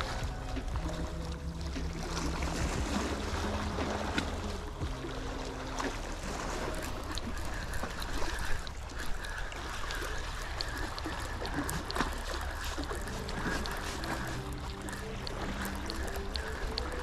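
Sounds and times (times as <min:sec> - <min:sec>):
sea water sloshing against rocks: 0:00.0 - 0:17.0.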